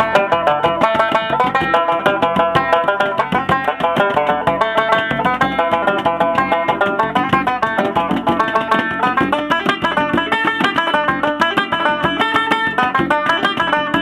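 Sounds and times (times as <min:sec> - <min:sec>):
banjo plucked notes: 0:00.0 - 0:14.0
hand frame drum: 0:00.0 - 0:14.0.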